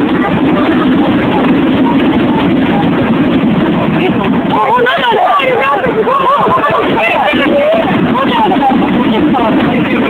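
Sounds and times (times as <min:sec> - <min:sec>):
crowd chattering: 0:00.0 - 0:10.0.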